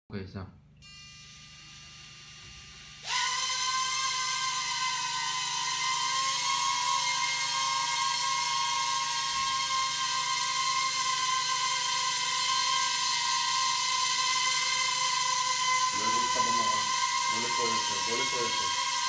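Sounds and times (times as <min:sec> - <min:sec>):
quadcopter motors whining: 0:00.9 - 0:19.0.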